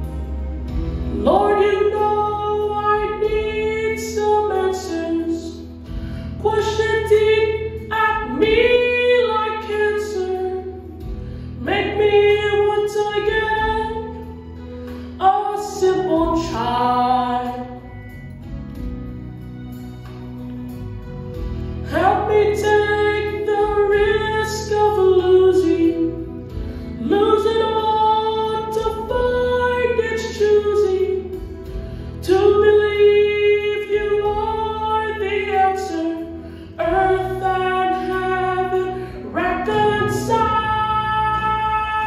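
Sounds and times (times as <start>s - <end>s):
soft instrumental accompaniment: 0.0s - 42.0s.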